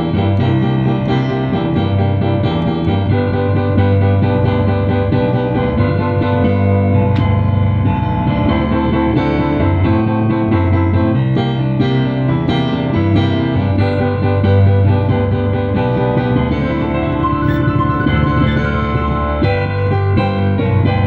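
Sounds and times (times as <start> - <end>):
digital piano chords: 0.0 - 21.0.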